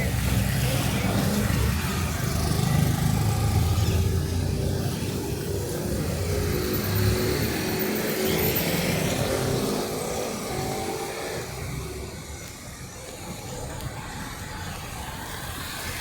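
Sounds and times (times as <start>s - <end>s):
car and motorcycle engines passing: 0.0s - 16.0s.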